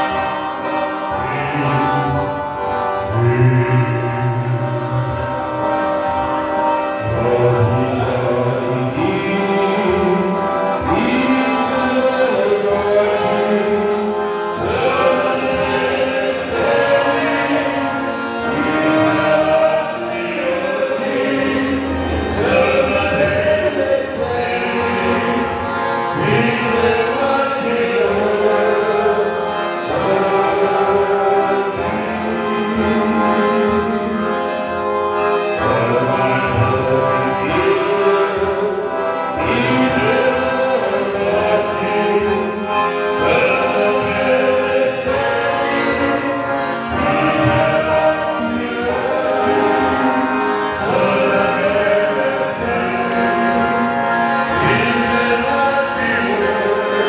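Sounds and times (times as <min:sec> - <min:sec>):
men singing: 0:00.0 - 0:05.4, 0:06.9 - 0:57.0
piano accordion: 0:00.0 - 0:57.0.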